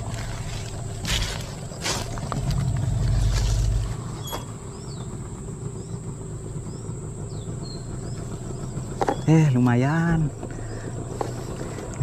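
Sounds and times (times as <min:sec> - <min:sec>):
low rumble: 0:00.0 - 0:12.0
steady high whine: 0:00.0 - 0:12.0
steady low hum: 0:00.0 - 0:12.0
bird calls chirping: 0:00.2 - 0:11.8.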